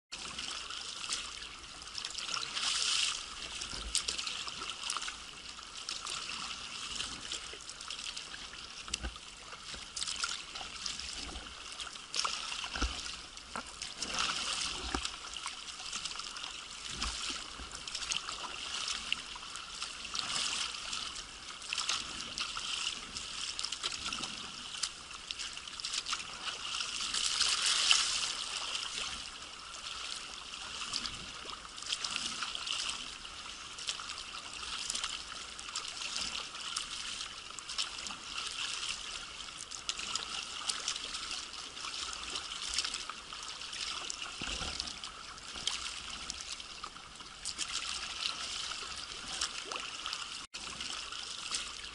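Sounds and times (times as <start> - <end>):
paddle dripping water: 0.1 - 51.9
water trickling and splashing: 0.1 - 51.9.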